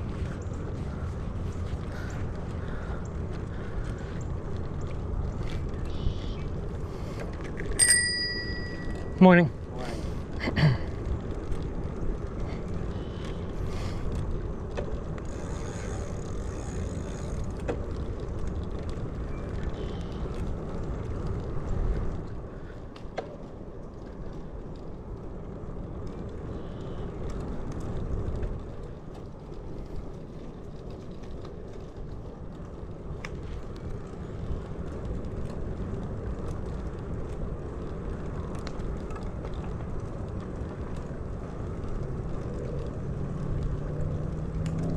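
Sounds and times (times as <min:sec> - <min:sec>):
bicycle road noise: 0:00.0 - 0:44.9.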